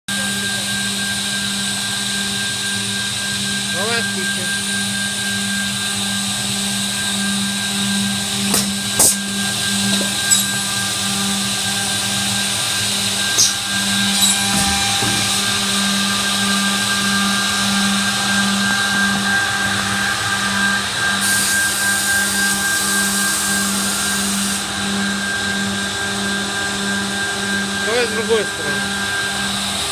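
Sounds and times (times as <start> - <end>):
edge banding machine humming: 0.1 - 29.9
high whine: 0.1 - 29.9.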